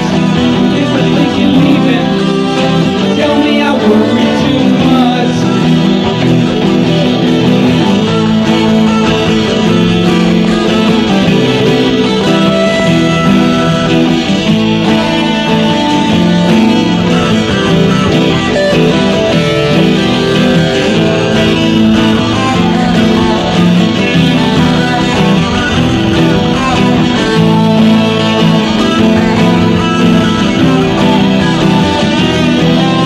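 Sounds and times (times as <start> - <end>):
guitar rock song: 0.0 - 33.0.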